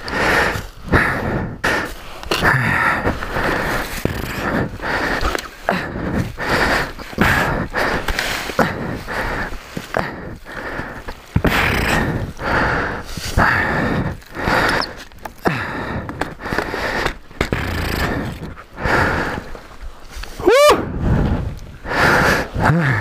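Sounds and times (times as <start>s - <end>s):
person breathing hard: 0.0s - 23.0s.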